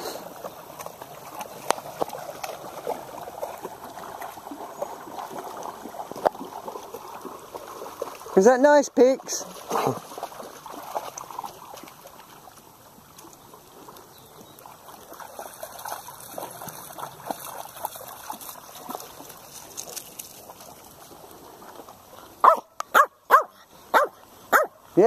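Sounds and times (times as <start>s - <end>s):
dogs splashing in water: 0.0s - 24.8s
river water trickling over stones: 0.0s - 25.0s.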